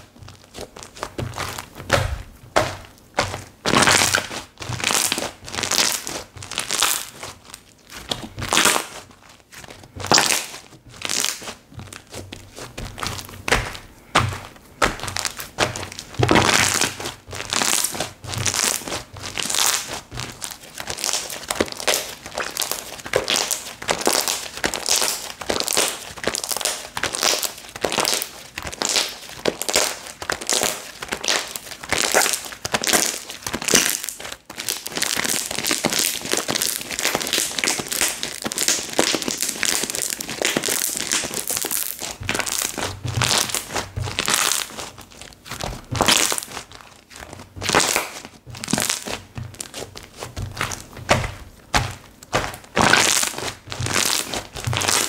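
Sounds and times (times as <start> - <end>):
slime squishing and crackling: 0.0 - 55.0.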